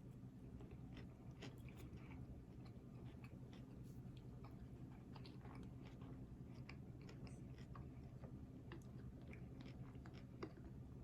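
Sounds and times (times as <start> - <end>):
person chewing food: 0.6 - 10.8.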